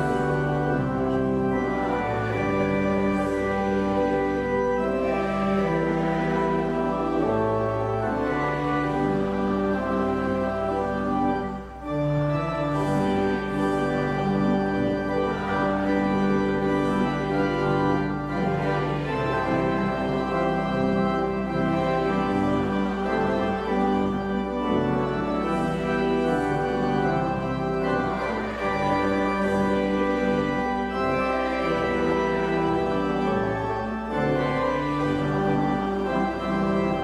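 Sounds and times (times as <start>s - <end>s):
church organ chords: 0.0s - 37.0s.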